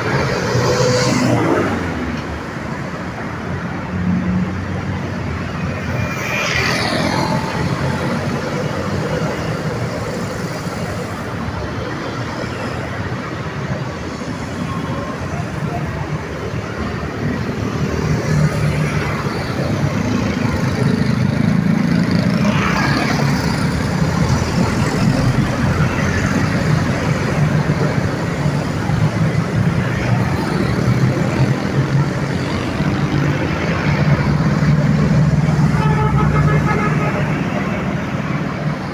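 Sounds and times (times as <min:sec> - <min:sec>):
vehicle engines: 0:00.0 - 0:38.9.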